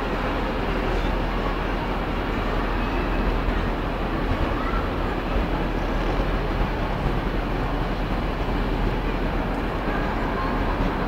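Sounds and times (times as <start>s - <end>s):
echoing crowd noise in station hall: 0.0s - 11.0s.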